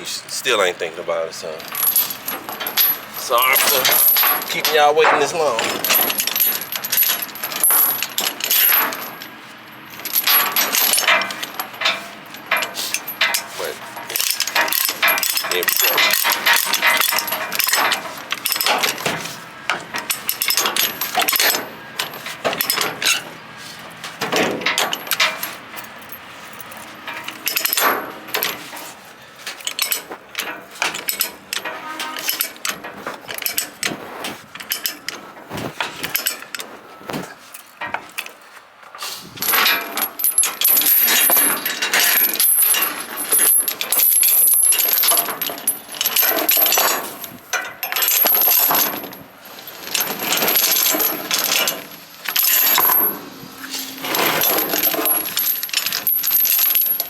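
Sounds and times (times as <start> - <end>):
steel chains clinking and rattling: 0.4 - 38.6, 39.3 - 57.0.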